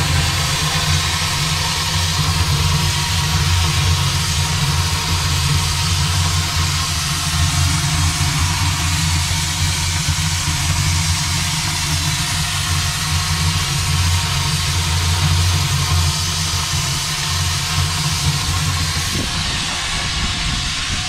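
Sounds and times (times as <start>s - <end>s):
steady low hum: 0.0s - 21.0s
steam engine firebox hiss: 0.0s - 21.0s.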